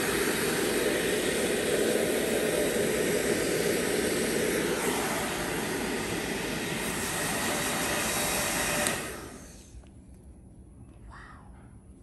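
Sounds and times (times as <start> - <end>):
hair dryer blowing: 0.0 - 9.8.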